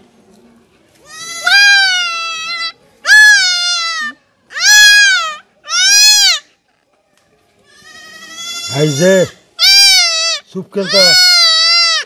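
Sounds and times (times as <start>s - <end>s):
goat kid bleating in distress: 1.0s - 6.4s, 7.7s - 12.0s.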